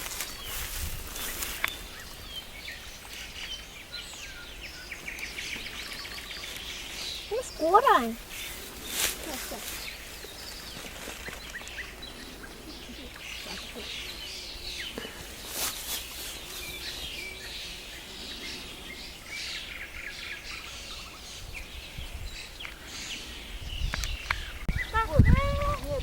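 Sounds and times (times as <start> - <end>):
songbirds chirping and singing: 0.0 - 26.0.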